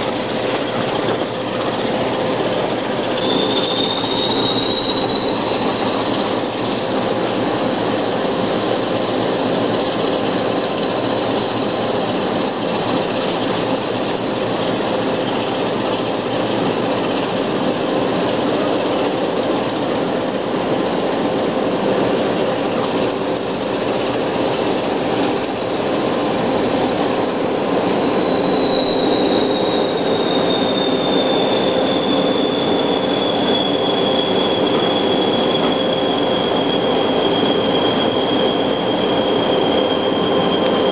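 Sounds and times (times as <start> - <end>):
diesel locomotive engine running: 0.0 - 40.9
turbocharger whistle: 0.0 - 40.9.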